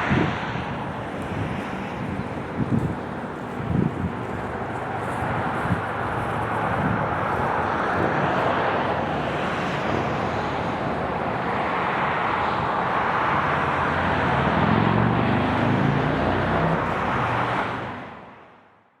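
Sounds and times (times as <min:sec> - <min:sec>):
engine rumble: 0:00.0 - 0:18.3
hiss of passing vehicles: 0:00.0 - 0:18.7.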